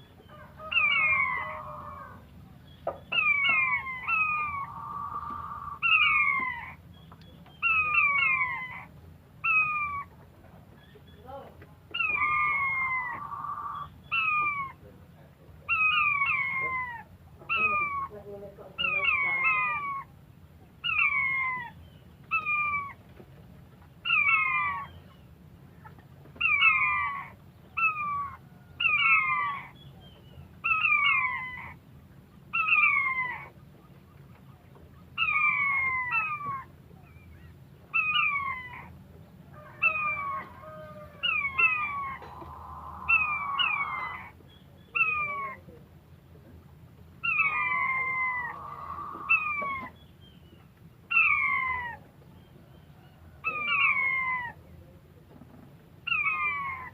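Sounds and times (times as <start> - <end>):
quail calling: 0.0 - 6.9, 7.5 - 10.2, 10.8 - 15.0, 15.6 - 23.0, 24.0 - 45.8, 47.2 - 54.7, 56.0 - 56.9.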